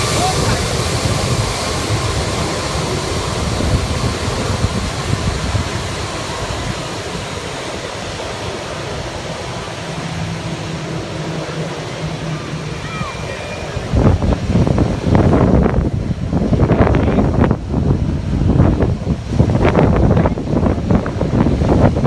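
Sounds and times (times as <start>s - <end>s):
jet engines roaring: 0.0s - 22.0s
wind buffeting microphone: 0.0s - 22.0s.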